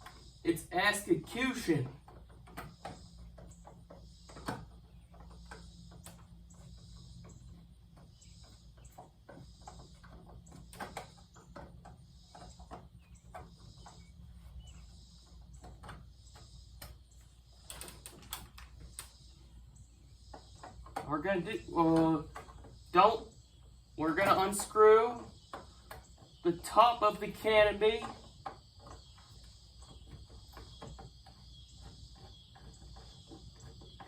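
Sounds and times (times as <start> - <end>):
faint scattered clicks: 0.0 - 34.0.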